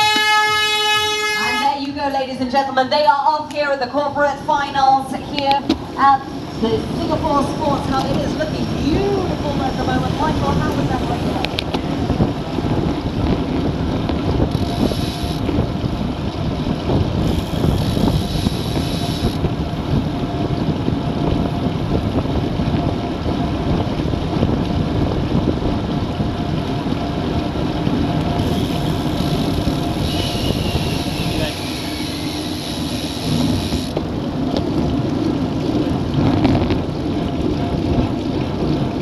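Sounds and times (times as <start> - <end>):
wind rumbling over microphone: 3.1 - 39.0.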